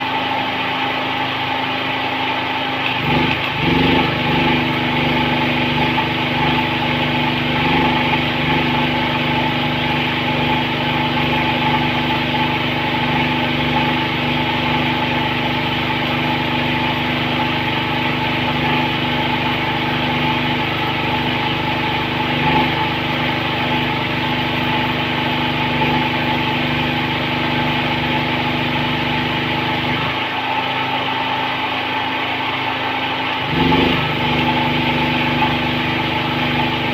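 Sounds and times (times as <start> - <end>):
small engine running steadily: 0.0 - 36.9.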